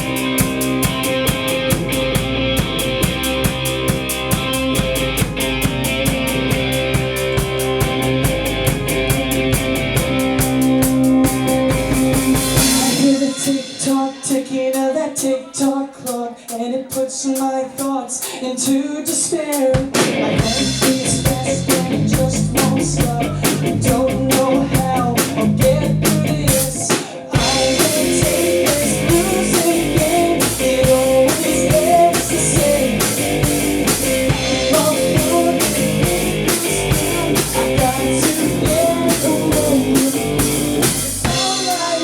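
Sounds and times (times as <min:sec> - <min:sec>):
rock band playing: 0:00.0 - 0:14.8, 0:19.6 - 0:42.0.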